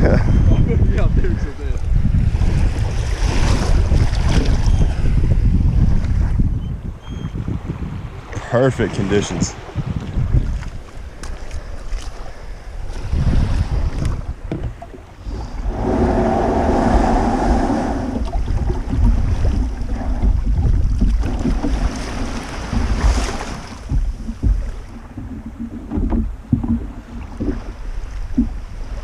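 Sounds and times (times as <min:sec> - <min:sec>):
water sounds: 0:00.0 - 0:29.0
wind buffeting microphone: 0:00.0 - 0:29.0.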